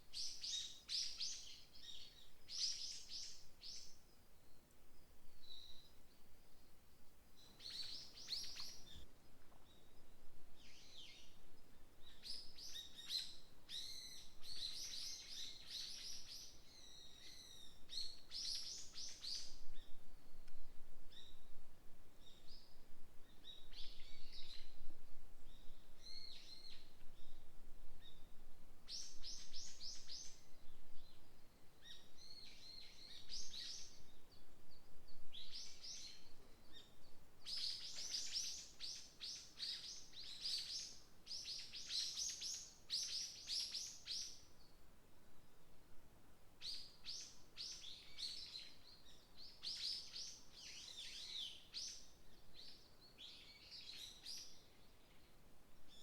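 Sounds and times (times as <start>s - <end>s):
songbirds singing: 0.0s - 44.9s, 46.6s - 56.0s
faint background hiss: 0.0s - 56.0s.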